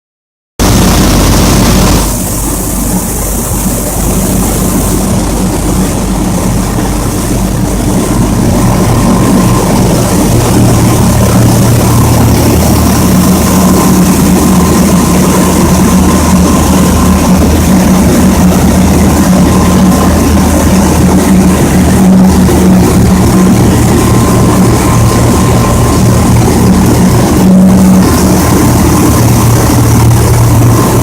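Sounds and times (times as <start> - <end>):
milling machinery drone: 0.6 - 31.0.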